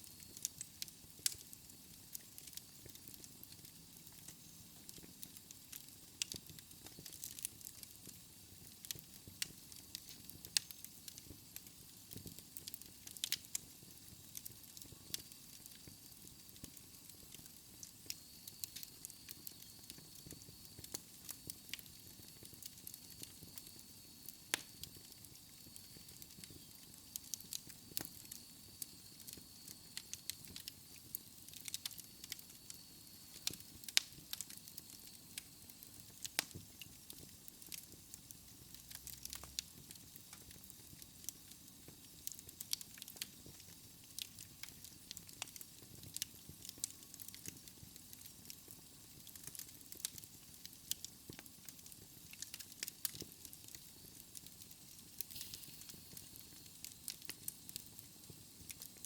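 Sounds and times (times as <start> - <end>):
fire crackling in fireplace: 0.0 - 59.0.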